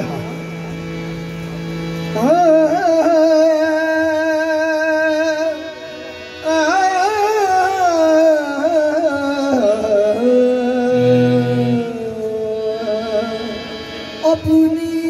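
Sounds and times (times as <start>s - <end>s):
harmonium drone: 0.0s - 15.0s
man singing long notes: 2.1s - 15.0s.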